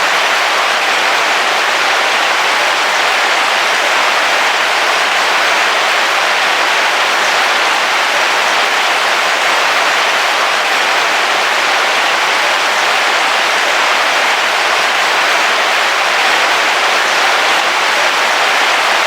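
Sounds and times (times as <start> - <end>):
heavy rain on car roof: 0.0 - 19.0.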